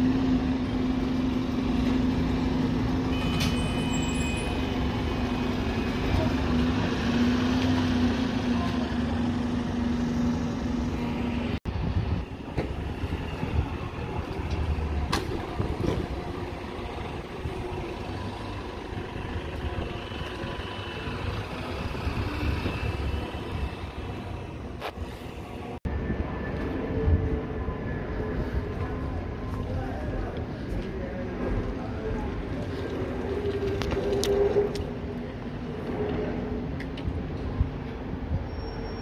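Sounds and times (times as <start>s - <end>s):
bus engines rumbling: 0.0s - 39.0s.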